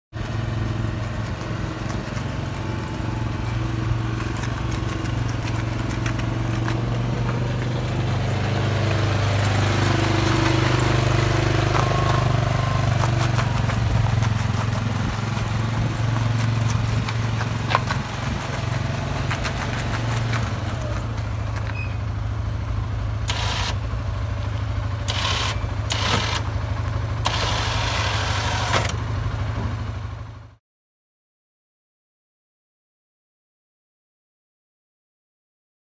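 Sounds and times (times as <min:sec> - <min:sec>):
quad engine running: 0:00.1 - 0:30.6.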